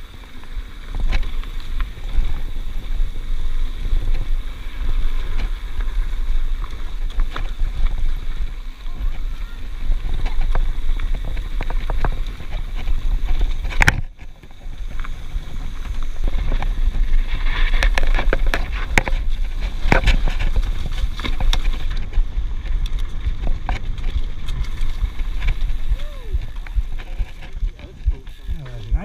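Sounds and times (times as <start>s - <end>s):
bike rattling over ground: 0.0s - 29.0s
wind buffeting microphone: 0.7s - 29.0s.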